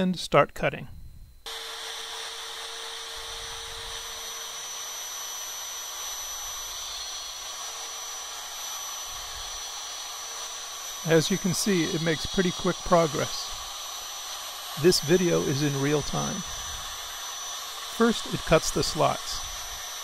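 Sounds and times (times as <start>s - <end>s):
router spindle whining: 1.4s - 20.0s
end mill cutting wood: 1.5s - 20.0s.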